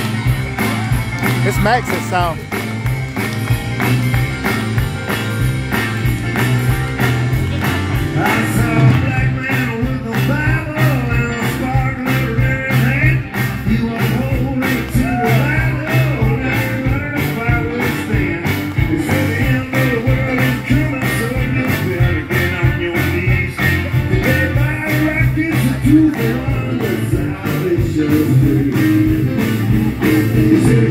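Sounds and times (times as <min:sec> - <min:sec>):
electric guitars: 0:00.0 - 0:30.9
steady drum beat: 0:00.0 - 0:30.9.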